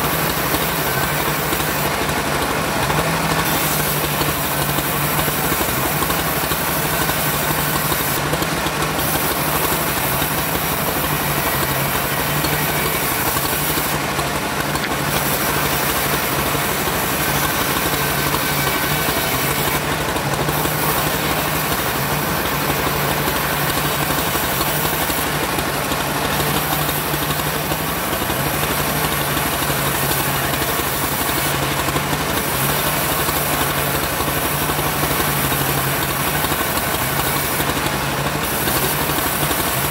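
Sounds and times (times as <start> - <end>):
bandsaw mill sawing wood: 0.0 - 39.9.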